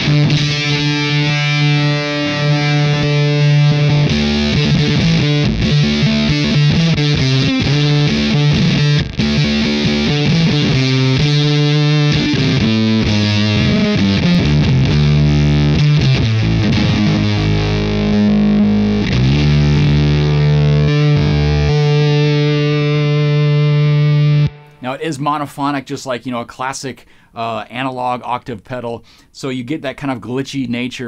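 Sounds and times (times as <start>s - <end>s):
distorted electric guitar riff: 0.0s - 25.0s.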